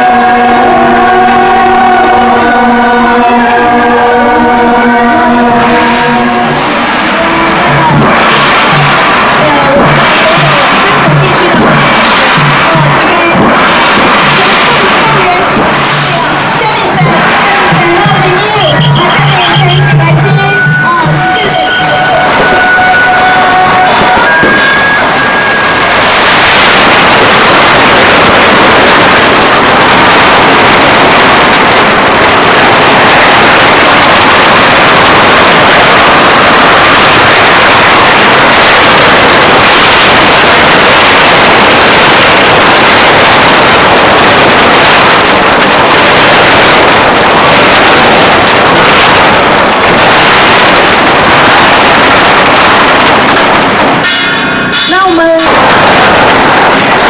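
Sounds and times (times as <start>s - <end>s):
firecracker string crackling: 0.0s - 57.0s.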